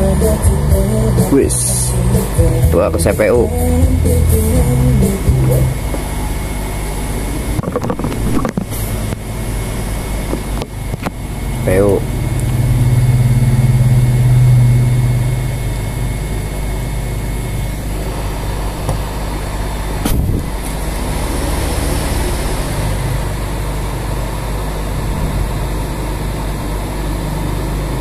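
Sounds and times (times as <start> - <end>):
hot air blower fan humming: 0.0 - 28.0.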